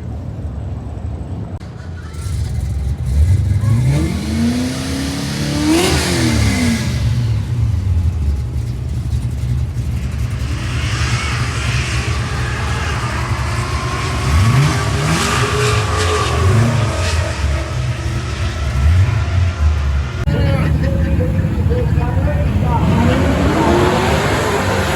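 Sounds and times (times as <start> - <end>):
race cars revving past: 2.2 - 7.8, 10.1 - 24.9.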